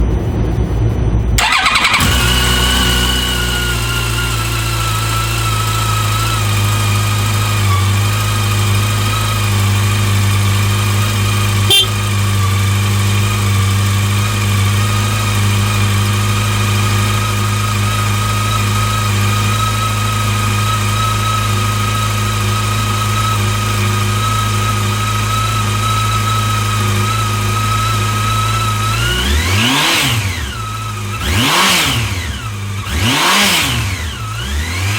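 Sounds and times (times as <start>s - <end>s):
motorcycle engine starting and idling: 1.4s - 34.9s.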